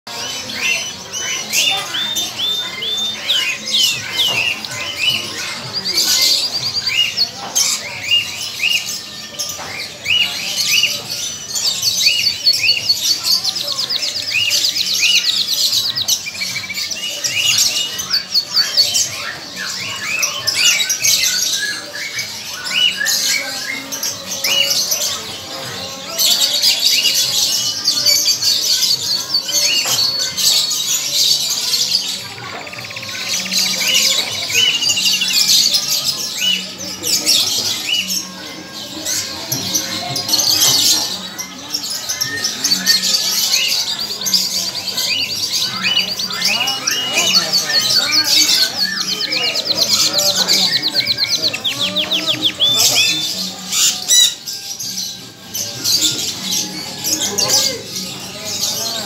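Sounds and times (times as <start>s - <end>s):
canary singing: 0.1s - 59.0s.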